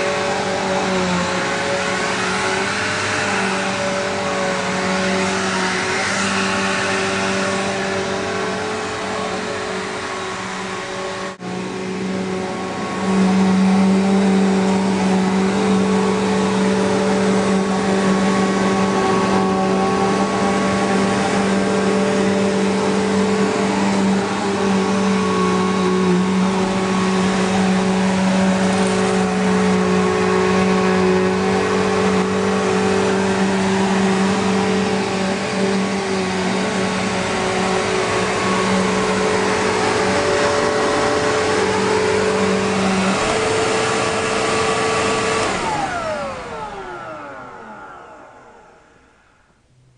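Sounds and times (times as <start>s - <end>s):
vacuum cleaner motor humming: 0.0s - 49.9s.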